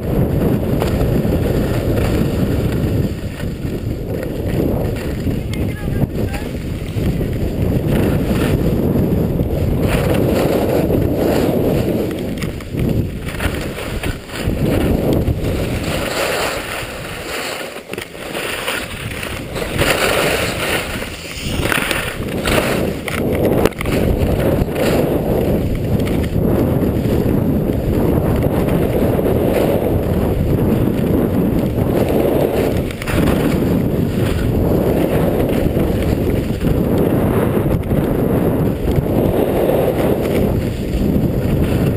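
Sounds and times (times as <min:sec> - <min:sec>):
skis scraping on packed snow: 0:00.0 - 0:41.9
wind buffeting microphone: 0:00.0 - 0:41.9.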